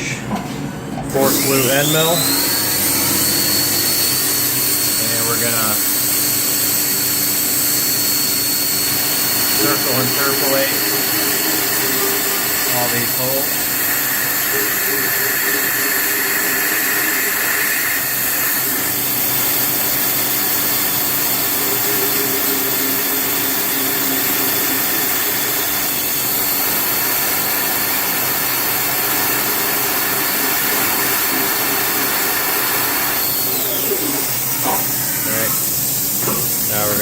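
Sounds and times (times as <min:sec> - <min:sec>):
milling spindle whine: 0:01.1 - 0:37.0
machine hiss: 0:01.2 - 0:37.0.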